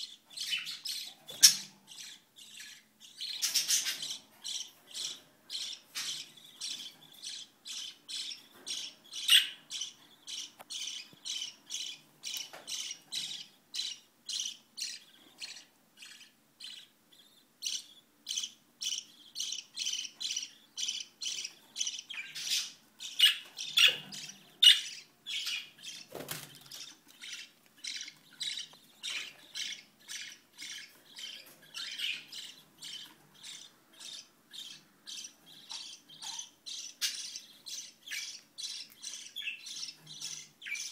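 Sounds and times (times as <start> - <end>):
lovebirds squawking chirps: 0.0 - 40.9.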